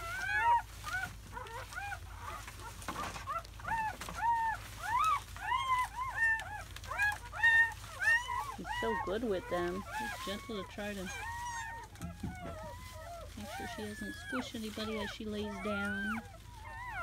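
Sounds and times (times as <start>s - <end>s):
puppies squeaking: 0.0s - 17.0s.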